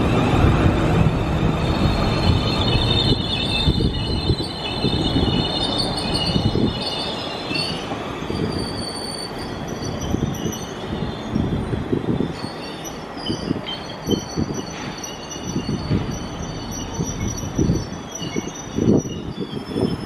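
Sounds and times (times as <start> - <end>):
train wheels rumbling and clattering: 0.0 - 20.0
high squealing tones: 1.5 - 20.0.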